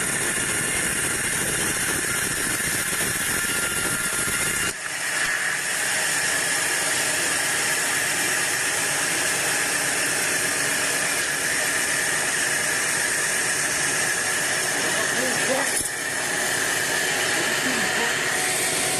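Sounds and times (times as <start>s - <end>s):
bandsaw cutting log: 0.0s - 18.9s.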